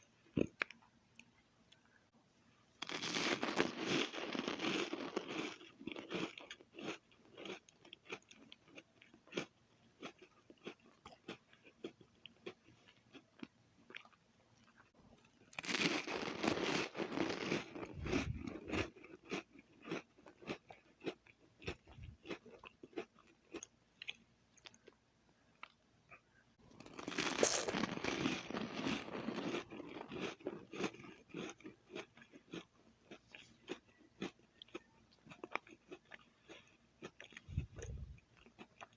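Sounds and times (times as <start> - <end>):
crackers being bitten and chewed: 2.8 - 38.9.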